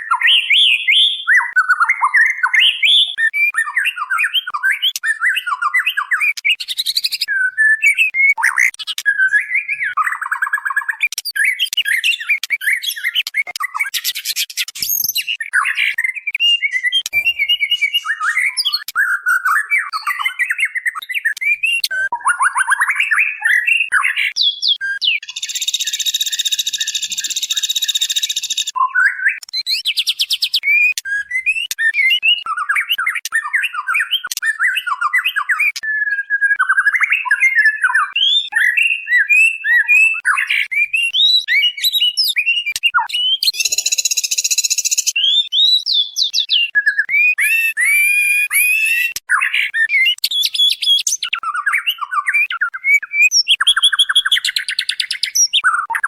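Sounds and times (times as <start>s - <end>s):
bird whistling and chirping: 0.0s - 56.0s.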